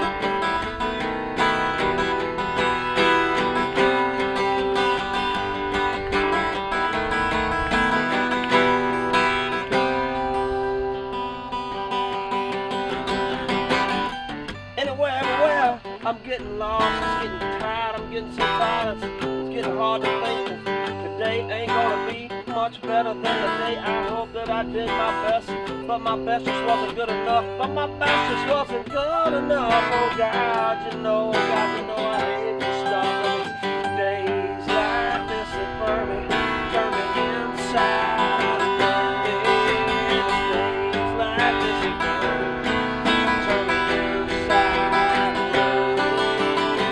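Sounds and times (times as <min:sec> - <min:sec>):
acoustic guitars strumming: 0:00.0 - 0:46.9.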